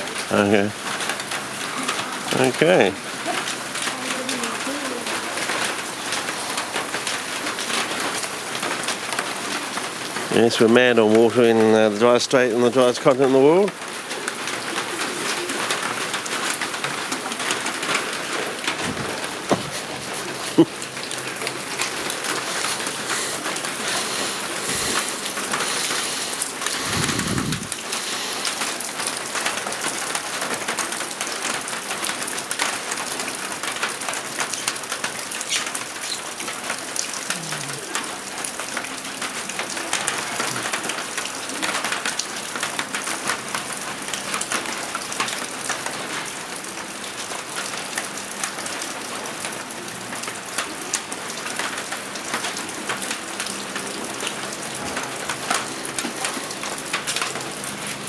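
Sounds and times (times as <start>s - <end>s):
heavy rain patter: 0.0s - 58.0s.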